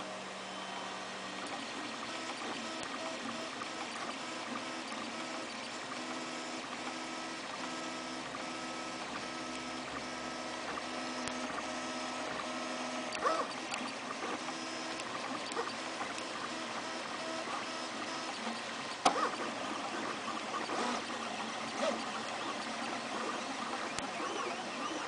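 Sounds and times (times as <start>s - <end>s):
stepper motors humming: 0.0s - 25.0s.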